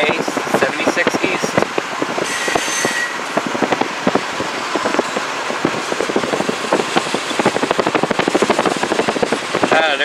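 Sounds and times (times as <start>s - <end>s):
car road and wind noise: 0.0s - 10.0s.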